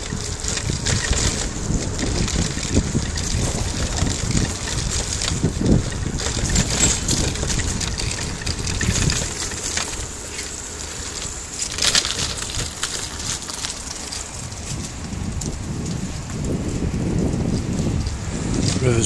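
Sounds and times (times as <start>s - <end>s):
crackles: 0.0s - 19.0s
rain hissing: 0.0s - 19.0s
wind rumbling on microphone: 0.0s - 19.0s.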